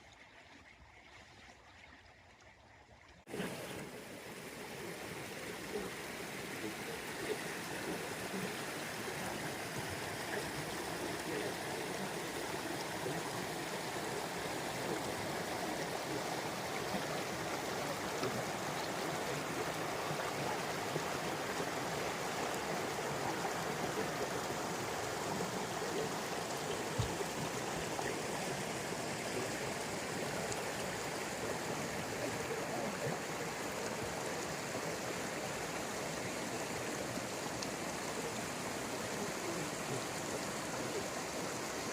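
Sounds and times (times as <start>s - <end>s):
stream rushing: 3.3s - 41.9s.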